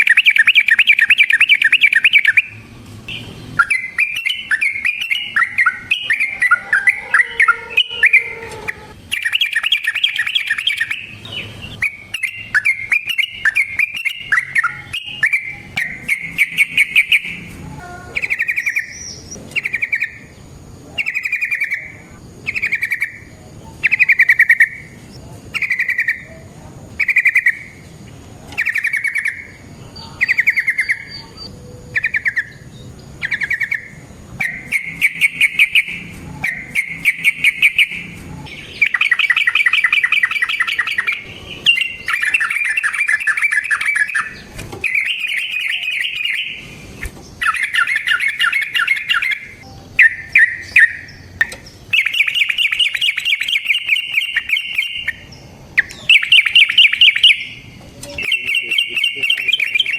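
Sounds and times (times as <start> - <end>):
bird singing bubbly trills: 0.0 - 26.3, 27.0 - 28.0, 28.6 - 59.9.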